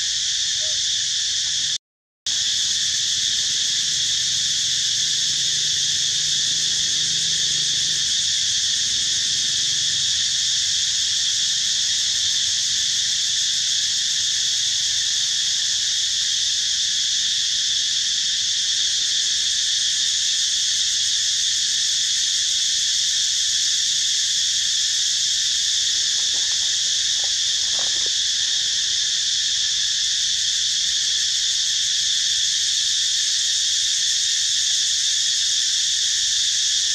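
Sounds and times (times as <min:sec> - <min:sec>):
insects chorus shrill drone: 0:00.0 - 0:36.9.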